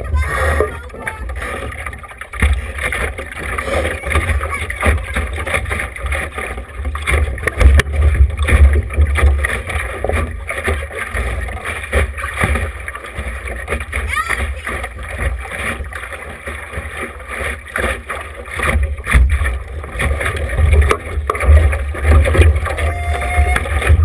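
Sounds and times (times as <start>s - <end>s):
water washing along hull: 0.0s - 24.0s.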